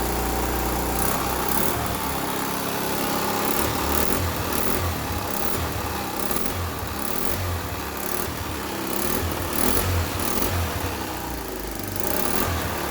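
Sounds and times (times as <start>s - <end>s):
scooter engine humming unevenly: 0.0s - 12.9s.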